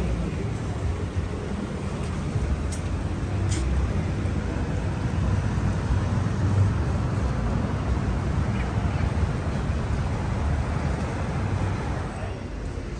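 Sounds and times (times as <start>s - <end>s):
traffic rumble: 0.0s - 12.9s
wind: 0.0s - 12.9s.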